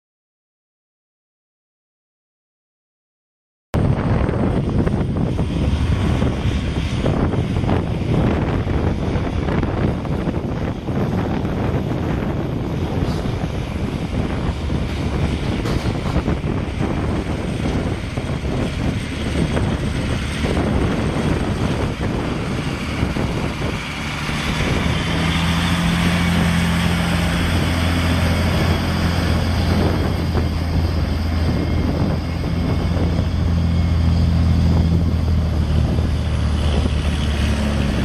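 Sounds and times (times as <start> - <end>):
dump truck diesel engine: 4.0 - 38.0.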